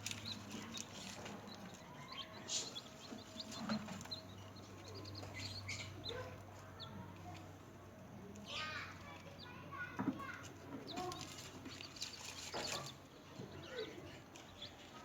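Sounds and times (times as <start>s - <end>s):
chicks peeping: 0.0s - 7.8s, 8.9s - 15.0s.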